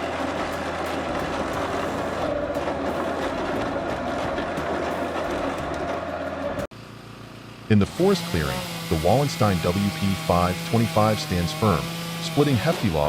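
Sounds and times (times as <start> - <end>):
forestry machine rattling: 0.0 - 6.7, 7.9 - 13.0.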